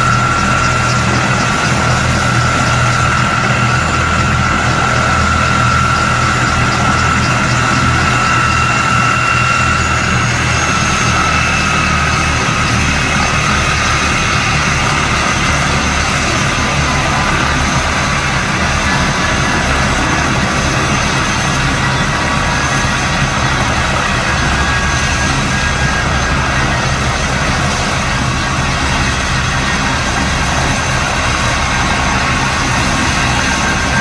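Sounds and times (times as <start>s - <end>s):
helicopter turbine whine: 0.0s - 34.0s.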